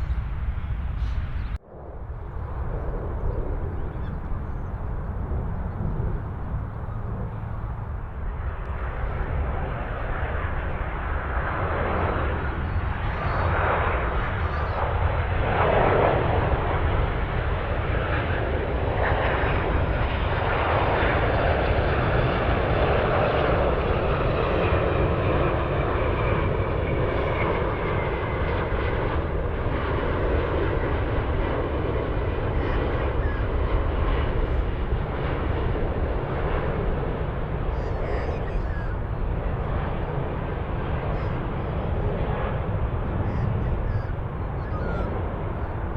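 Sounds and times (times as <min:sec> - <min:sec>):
jet airliner landing rumble: 0:00.0 - 0:45.9.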